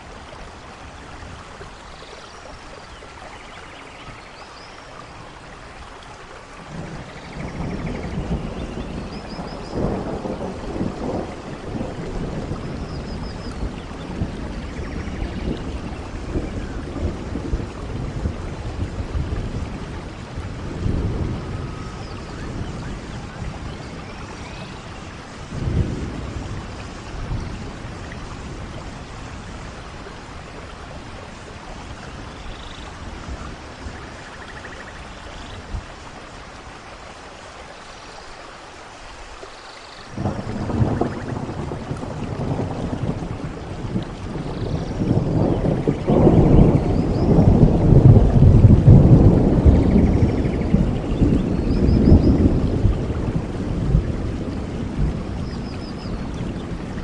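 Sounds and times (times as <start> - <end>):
rain falling: 0.0 - 57.0
low rumbling thunder: 6.6 - 36.3, 40.1 - 57.0.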